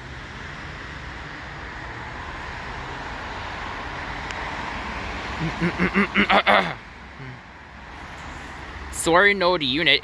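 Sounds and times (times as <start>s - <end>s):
diesel locomotive rumbling: 0.0s - 10.0s.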